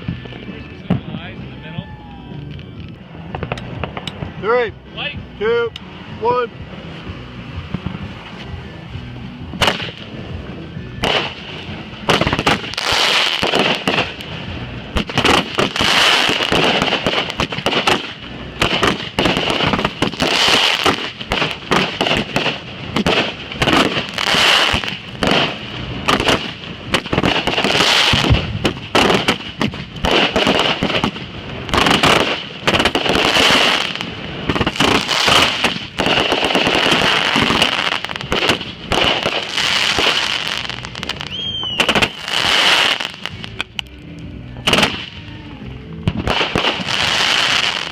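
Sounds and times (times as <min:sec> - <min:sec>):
fireworks shots and bursts: 0:03.0 - 0:43.7, 0:44.6 - 0:47.9
fireworks crackle: 0:06.8 - 0:47.9.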